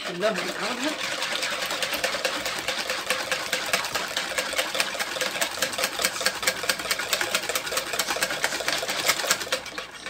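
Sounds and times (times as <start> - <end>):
whisk clicking against plastic bowl: 0.0 - 10.0.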